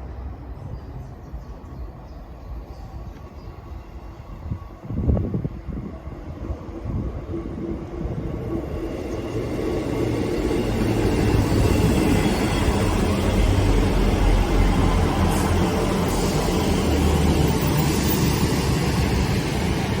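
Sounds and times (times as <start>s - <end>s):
diesel train engine drone: 0.0s - 20.0s
wheels rumbling on rails: 0.0s - 20.0s.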